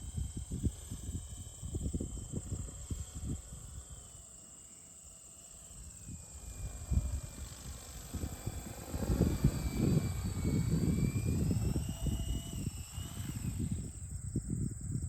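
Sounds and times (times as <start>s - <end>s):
toy helicopter motor whine: 0.0s - 15.0s.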